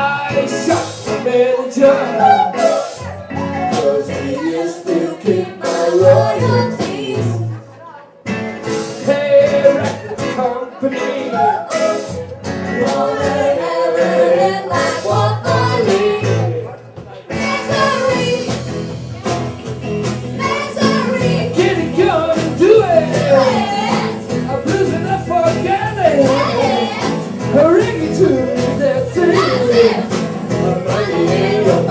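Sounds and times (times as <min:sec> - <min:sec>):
person singing: 0:00.0 - 0:07.7, 0:08.7 - 0:16.7, 0:20.4 - 0:31.9
acoustic guitar: 0:00.0 - 0:31.9
drums: 0:00.0 - 0:31.9.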